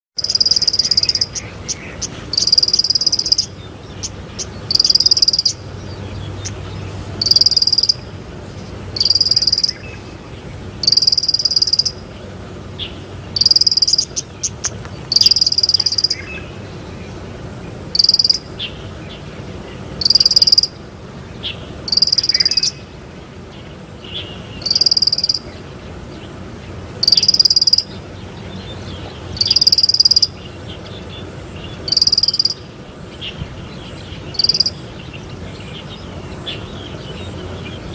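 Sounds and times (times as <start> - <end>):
bird singing buzzy phrase: 0.2 - 37.9
faint high-pitched whine: 0.2 - 37.9.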